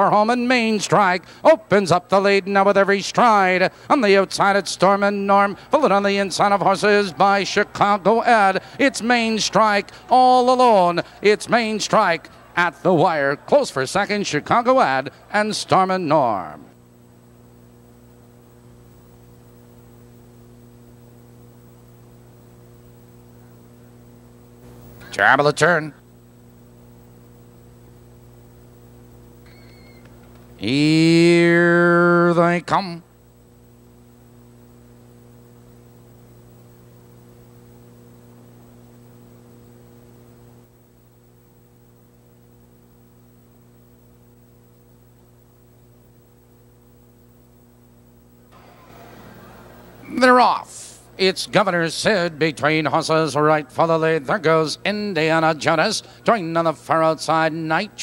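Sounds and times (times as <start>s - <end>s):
electrical mains hum: 0.0s - 58.0s
faint tape hiss: 0.0s - 58.0s.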